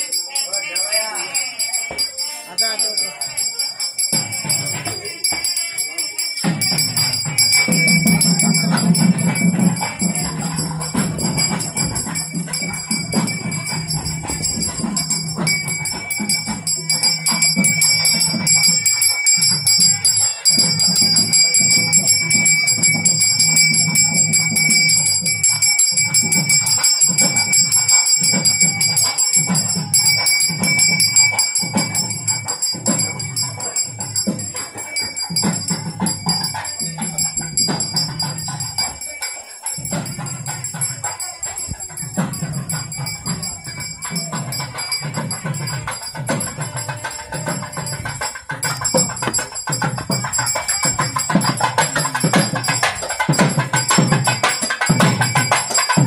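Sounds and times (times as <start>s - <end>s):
low rhythmic drumming: 0.0s - 56.0s
temple bell ringing: 0.0s - 56.0s.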